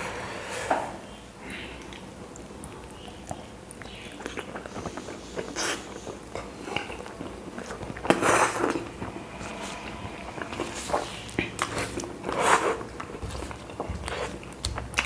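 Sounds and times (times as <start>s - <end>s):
chewing: 1.5s - 9.0s, 10.4s - 15.0s.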